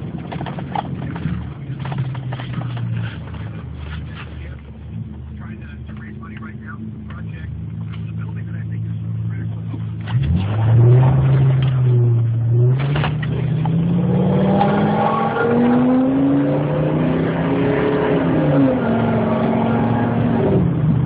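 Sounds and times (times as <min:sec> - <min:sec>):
engine revving from inside cab: 0:02.4 - 0:21.0.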